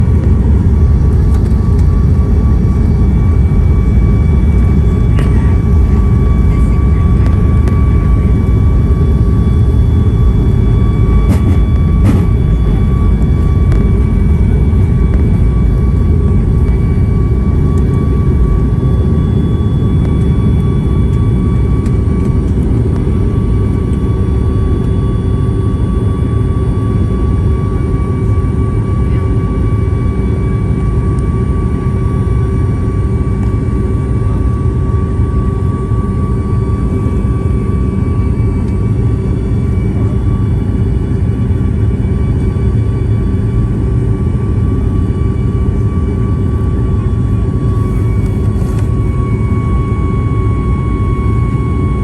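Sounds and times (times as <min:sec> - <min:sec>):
high engine whine: 0:00.0 - 0:52.0
jet engines rumbling: 0:00.0 - 0:52.0.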